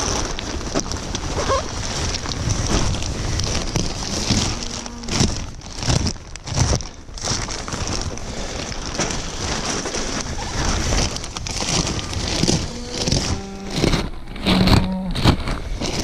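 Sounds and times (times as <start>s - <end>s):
plastic crackling bursts: 0.0s - 16.0s
plastic sheeting crinkling: 0.0s - 16.0s.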